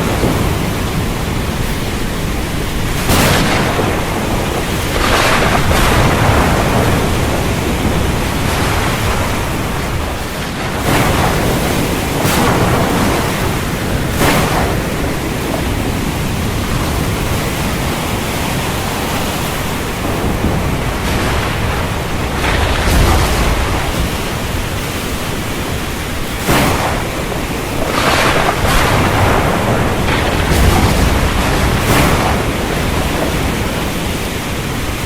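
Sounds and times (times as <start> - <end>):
stormy wind: 0.0 - 35.0
surf rushing: 0.0 - 35.0.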